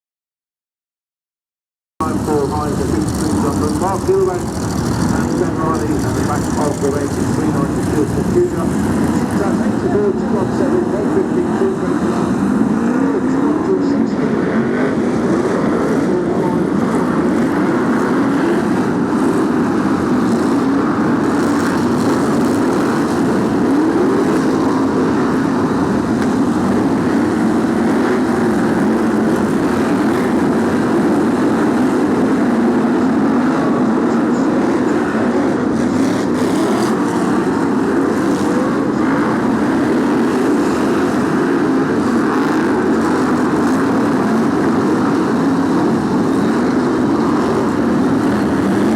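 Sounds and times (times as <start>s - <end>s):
racing car engines revving: 2.0s - 48.9s.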